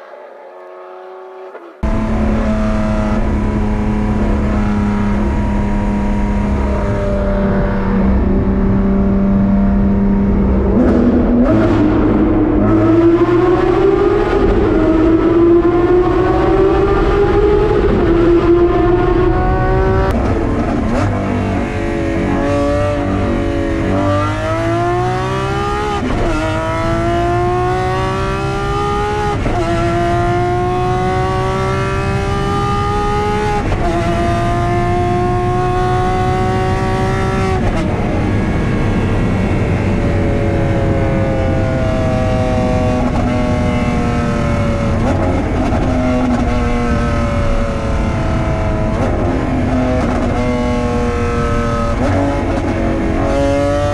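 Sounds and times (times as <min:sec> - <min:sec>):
sports car engine accelerating: 0:00.0 - 0:53.9.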